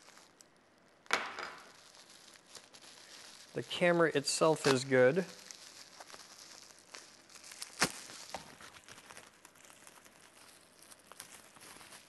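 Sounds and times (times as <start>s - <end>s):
bubble wrap crinkling: 0.0s - 12.0s
sharp crackle of bubble wrap: 0.0s - 12.0s.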